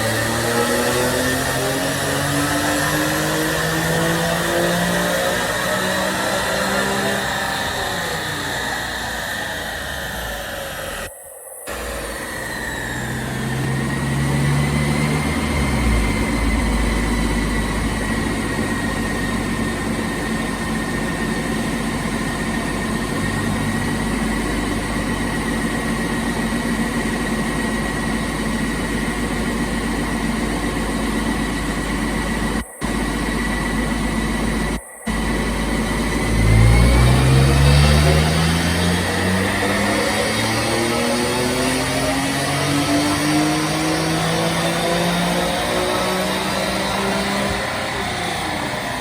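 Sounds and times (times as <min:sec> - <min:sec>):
car engine revving and idling: 0:00.0 - 0:11.1, 0:11.7 - 0:49.0
high whine: 0:00.0 - 0:49.0.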